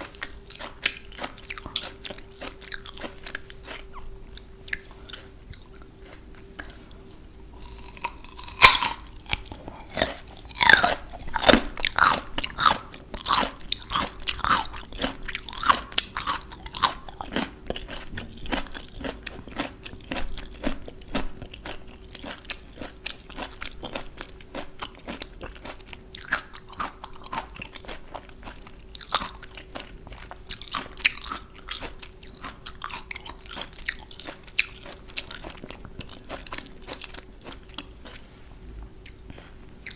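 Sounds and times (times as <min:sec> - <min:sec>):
faint steady hum: 0:00.0 - 0:39.9
person chewing crunchy vegetables: 0:00.0 - 0:39.9.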